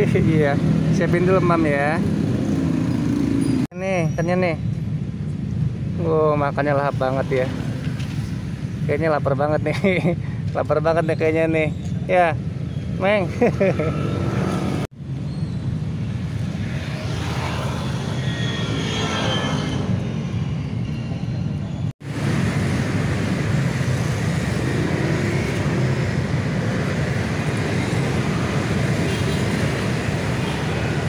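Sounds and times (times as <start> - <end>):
rumble of motor traffic: 0.0 - 31.0.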